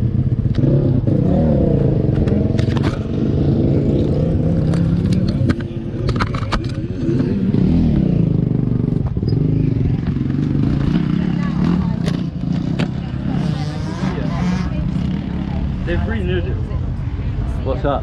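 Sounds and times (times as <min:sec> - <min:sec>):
motorbike engine revving: 0:00.0 - 0:15.9.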